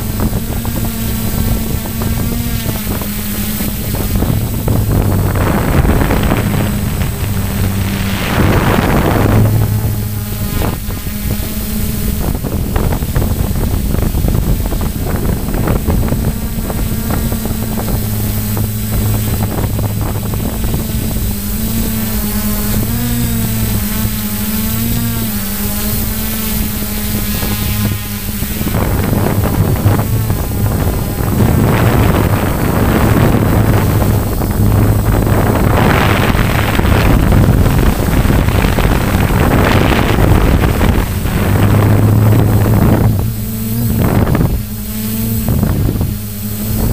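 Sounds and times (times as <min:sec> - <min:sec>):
model aeroplane motor droning: 0:00.0 - 0:46.9
wind rushing over microphone: 0:00.0 - 0:46.9.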